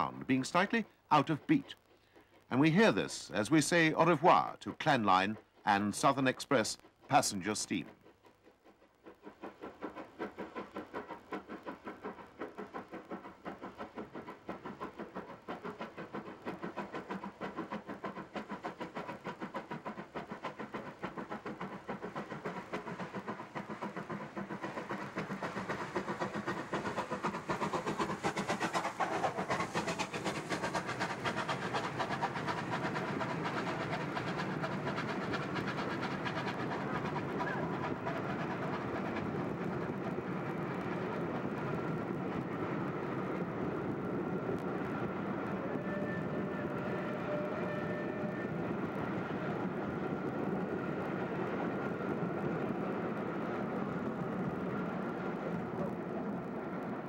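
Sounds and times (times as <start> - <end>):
steam locomotive exhaust beat: 0.0 - 57.0
train coaches rail clatter: 2.6 - 57.0.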